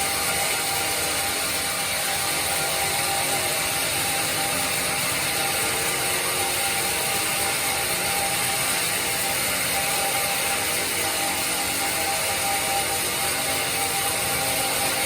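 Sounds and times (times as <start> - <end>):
band sawmill running: 0.0 - 15.0.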